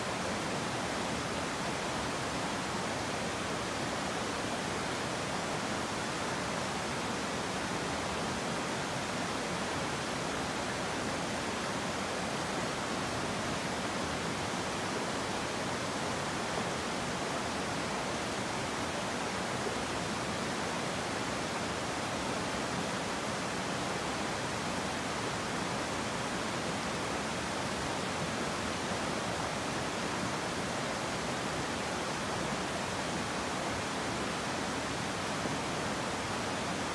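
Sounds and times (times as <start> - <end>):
river water rushing: 0.0 - 36.9.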